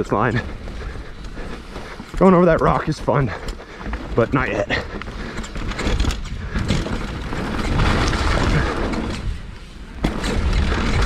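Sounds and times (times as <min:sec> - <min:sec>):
bike rattling over rough trail: 0:00.0 - 0:11.0.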